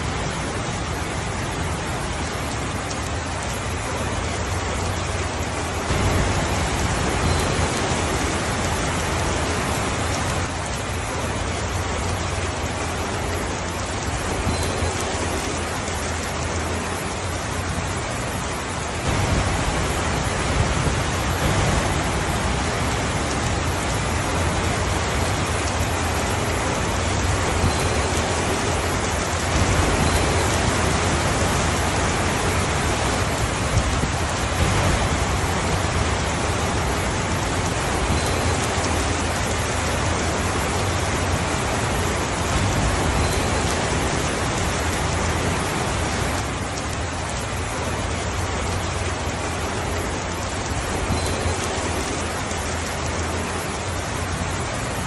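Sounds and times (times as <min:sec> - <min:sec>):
steady rain on surfaces: 0:00.0 - 0:55.0.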